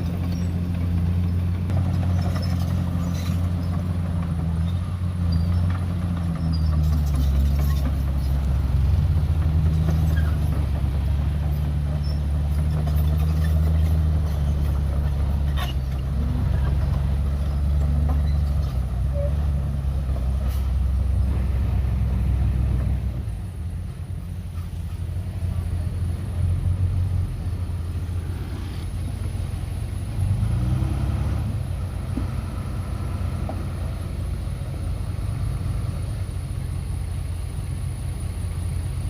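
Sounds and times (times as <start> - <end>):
diesel machinery rumbling: 0.0 - 39.0.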